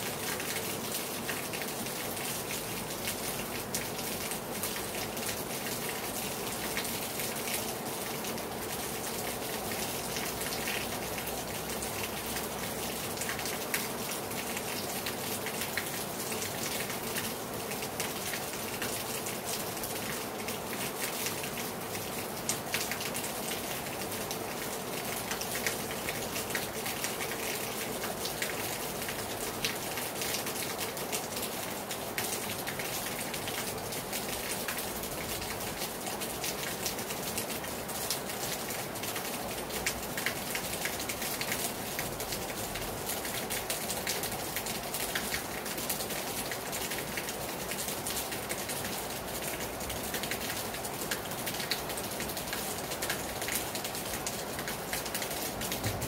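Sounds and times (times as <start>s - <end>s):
heavy rain on a terrace: 0.0s - 56.0s.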